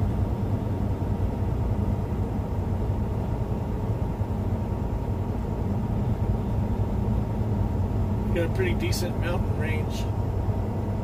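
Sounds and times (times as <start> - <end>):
diesel engine drone: 0.0 - 11.0
road and tyre noise: 0.0 - 11.0.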